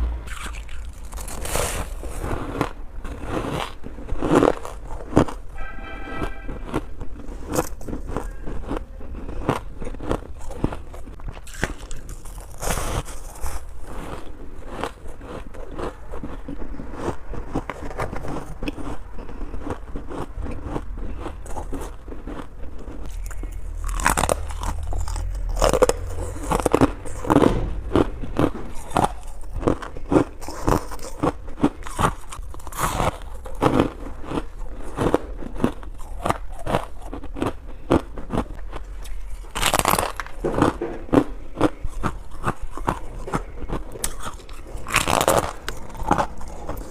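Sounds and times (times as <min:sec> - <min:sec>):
steady low hum: 0:00.0 - 0:46.9
crunching ice: 0:00.3 - 0:05.6, 0:06.3 - 0:46.9.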